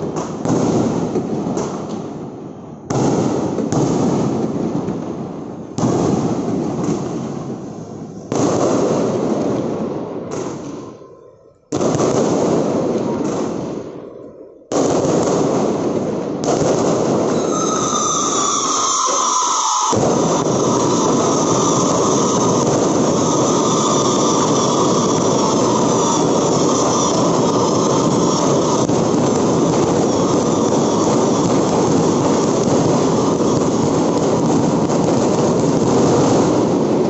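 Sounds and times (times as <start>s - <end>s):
fireworks bursting: 0.0s - 37.0s
fireworks crackle: 0.0s - 37.0s
fireworks whistles: 0.0s - 37.0s.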